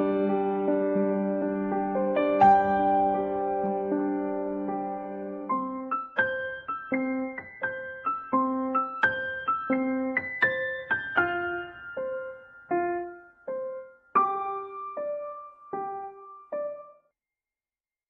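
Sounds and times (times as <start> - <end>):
gentle piano music: 0.0 - 17.1.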